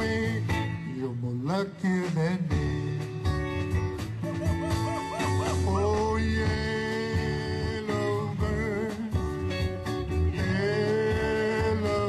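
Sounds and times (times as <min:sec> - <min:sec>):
bass line: 0:00.0 - 0:12.0
guitar: 0:00.0 - 0:12.0.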